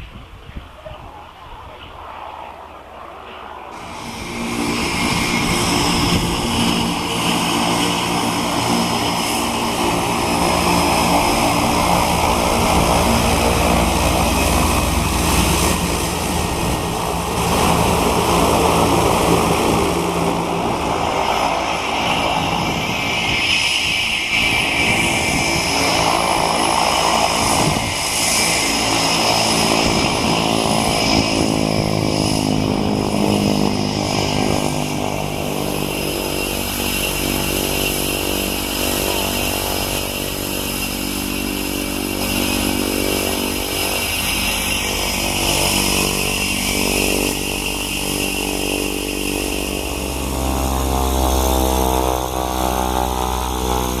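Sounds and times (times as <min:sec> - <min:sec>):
high turbine whine: 0:00.0 - 0:54.0
turboprop engine running: 0:00.0 - 0:54.0.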